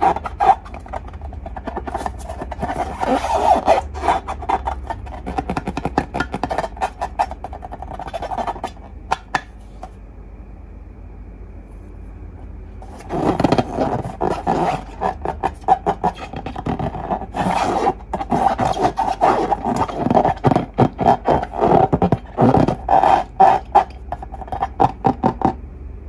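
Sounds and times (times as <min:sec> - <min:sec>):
slime kneaded sticky squelches: 0:00.0 - 0:09.9, 0:12.8 - 0:25.6.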